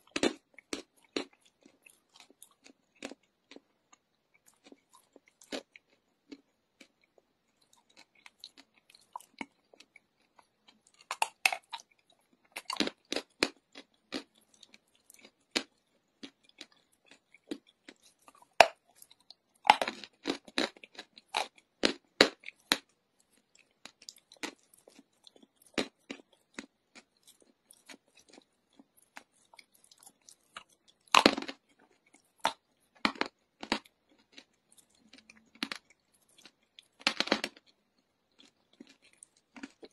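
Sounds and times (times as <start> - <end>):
chalk being bitten and chewed: 0.0 - 39.9.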